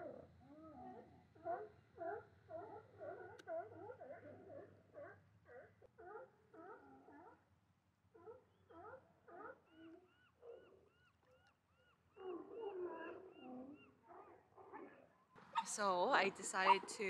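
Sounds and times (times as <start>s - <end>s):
seals barking and moaning: 0.0s - 7.4s, 8.2s - 11.3s, 11.9s - 15.7s.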